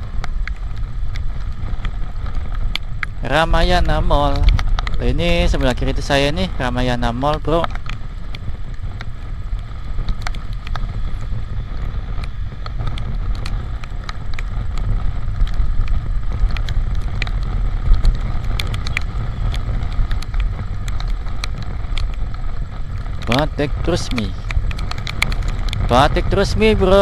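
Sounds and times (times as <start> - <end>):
motorcycle running: 0.0 - 27.0
raindrops ticking on camera: 0.0 - 27.0
wind rumbling on microphone: 0.0 - 27.0.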